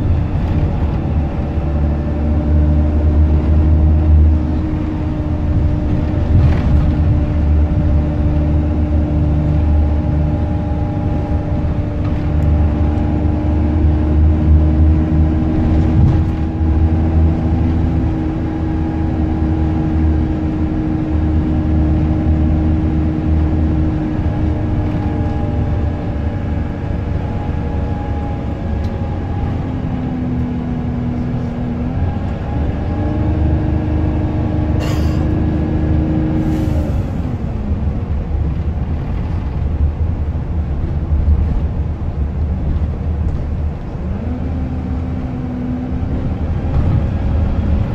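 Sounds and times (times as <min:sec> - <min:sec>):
bus engine and road rumble: 0:00.0 - 0:47.9
drivetrain whine: 0:00.0 - 0:47.9.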